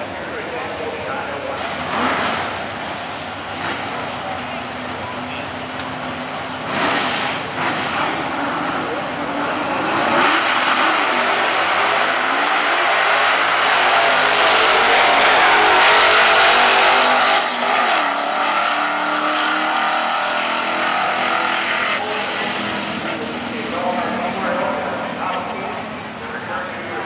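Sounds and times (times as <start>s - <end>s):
drag cars racing at full throttle: 0.0s - 27.0s.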